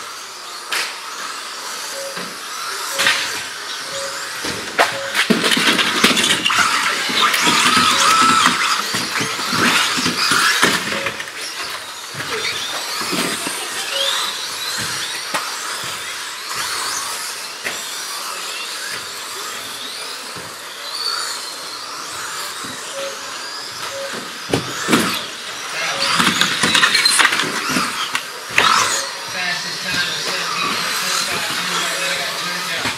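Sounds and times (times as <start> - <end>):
electric motor whines: 0.0 - 32.9.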